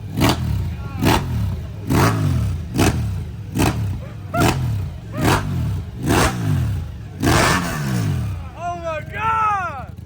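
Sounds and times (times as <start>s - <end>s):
motorcycle exhaust revving: 0.0s - 8.6s.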